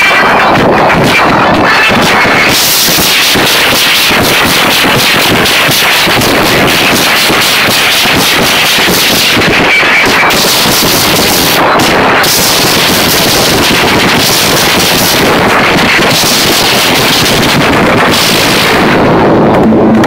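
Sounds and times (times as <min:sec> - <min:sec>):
distorted live band and crowd: 0:00.0 - 0:20.0.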